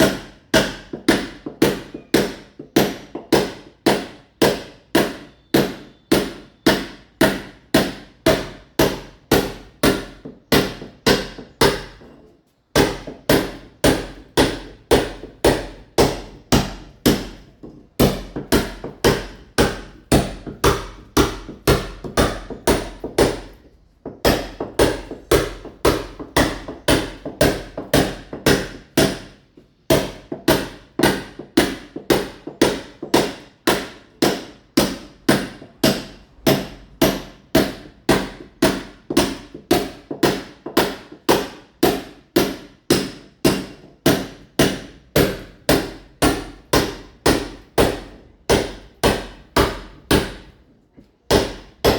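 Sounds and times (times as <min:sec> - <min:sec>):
hammer striking masonry: 0:00.0 - 0:50.6, 0:51.2 - 0:51.9.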